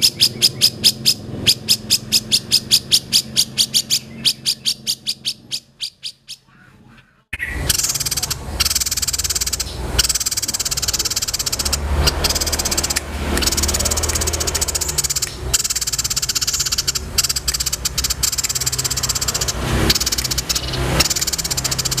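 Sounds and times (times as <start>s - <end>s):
rattling chirps and trills: 0.0s - 22.0s.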